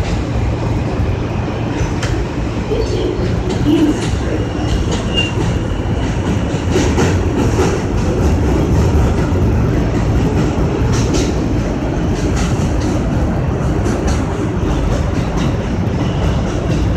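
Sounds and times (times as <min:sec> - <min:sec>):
train wheels and motors rumbling: 0:00.0 - 0:16.9
wheels clacking over rail joints: 0:01.7 - 0:16.9.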